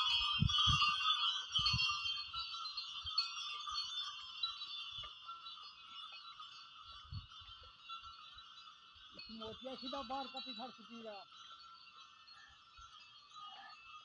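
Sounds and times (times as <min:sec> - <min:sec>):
ox bells jingling: 0:00.0 - 0:14.0.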